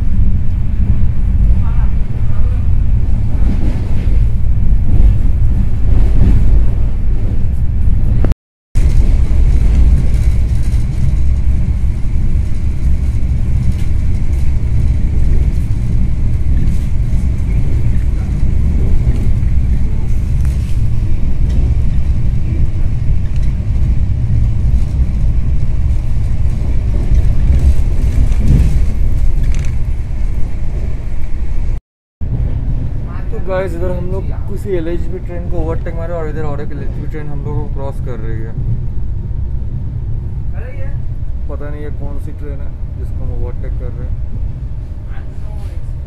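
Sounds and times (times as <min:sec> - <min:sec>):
train carriage rumble: 0:00.0 - 0:46.0.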